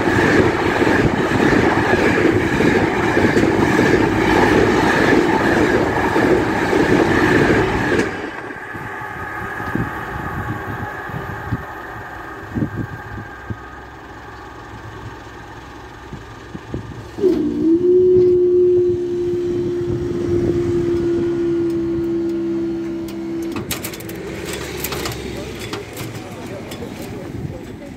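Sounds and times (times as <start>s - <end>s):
barrier electric motor whining: 0.0s - 26.5s.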